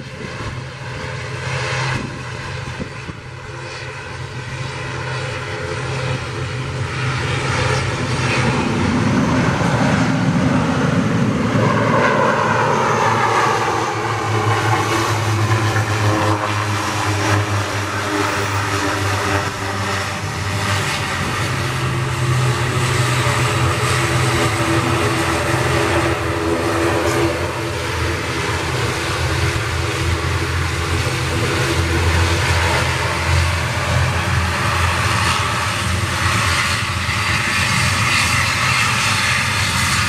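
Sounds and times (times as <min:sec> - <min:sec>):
turboprop engines droning: 0:00.0 - 0:40.0.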